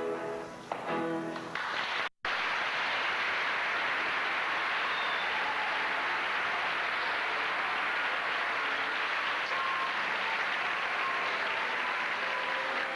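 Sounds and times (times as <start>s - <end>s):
applause: 1.4s - 12.9s.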